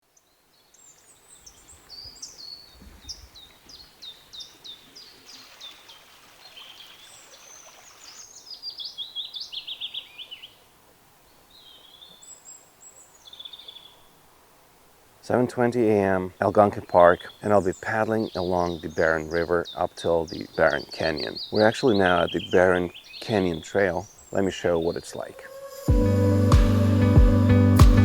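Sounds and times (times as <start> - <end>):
songbirds singing: 0.0 - 14.2, 15.2 - 25.8
faint outdoor background noise: 0.0 - 25.9.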